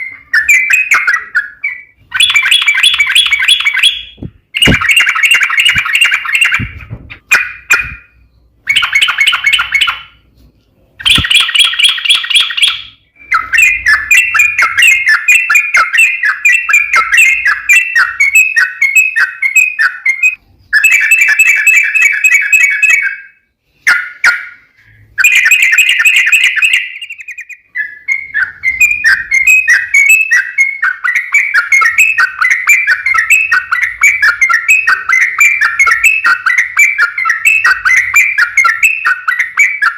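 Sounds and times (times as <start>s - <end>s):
bird chattering song: 0.0s - 10.2s, 11.0s - 39.9s.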